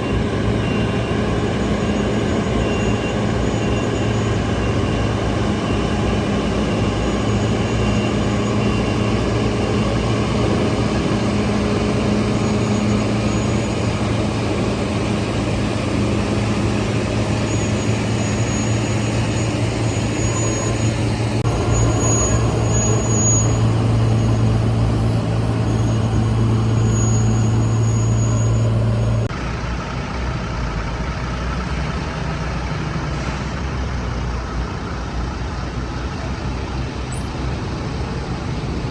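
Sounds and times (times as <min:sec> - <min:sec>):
truck engine low hum: 0:00.0 - 0:38.9.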